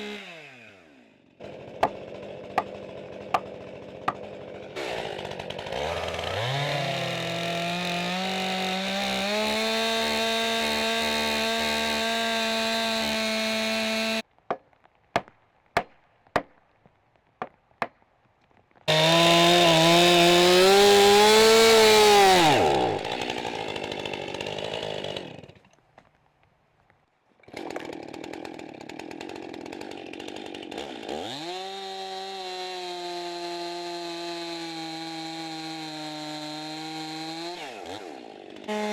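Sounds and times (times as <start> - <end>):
chainsaw revving: 0.0 - 14.2, 18.9 - 25.7, 27.4 - 38.9.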